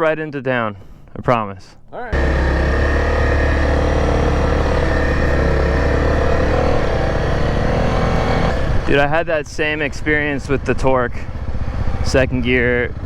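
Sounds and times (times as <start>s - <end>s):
motorcycle engine running: 1.8s - 13.0s.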